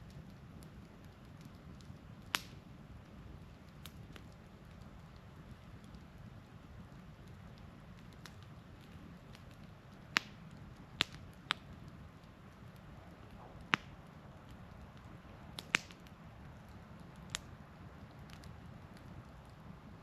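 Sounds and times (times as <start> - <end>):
firewood popping: 0.0 - 20.0
low rumble of fire: 0.0 - 20.0.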